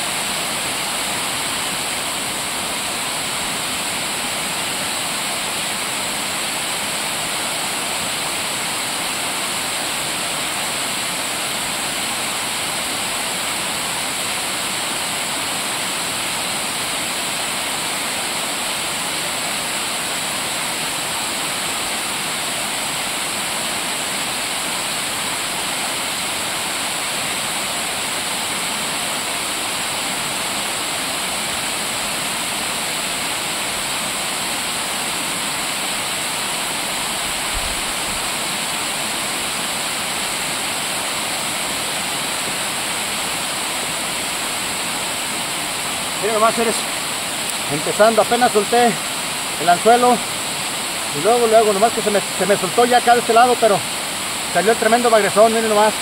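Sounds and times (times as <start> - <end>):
waterfall pouring: 0.0 - 56.0.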